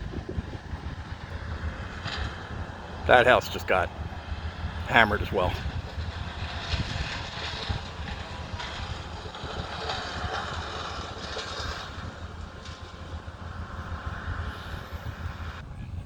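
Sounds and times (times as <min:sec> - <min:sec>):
distant machinery engines rumbling: 0:00.0 - 0:16.0
wind buffeting microphone: 0:00.0 - 0:16.0.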